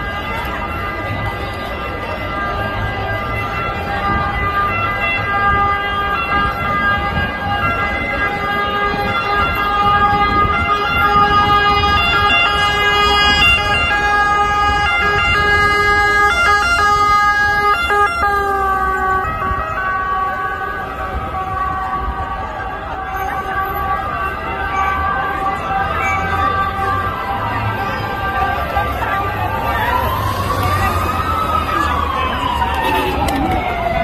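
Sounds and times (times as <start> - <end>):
emergency vehicle siren: 0.0 - 34.0
street and crowd noise: 0.0 - 34.0.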